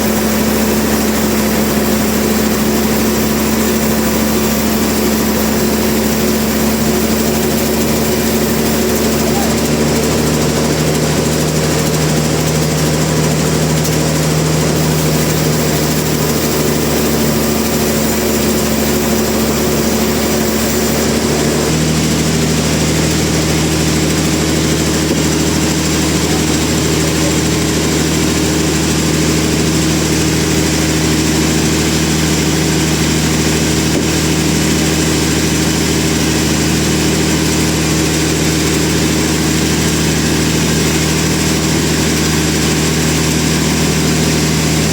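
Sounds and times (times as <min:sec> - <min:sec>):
large engine humming: 0:00.0 - 0:44.9.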